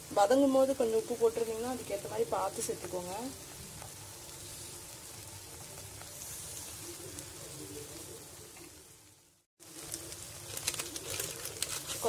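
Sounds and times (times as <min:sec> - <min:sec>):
gravy simmering and sizzling: 0:00.0 - 0:12.0.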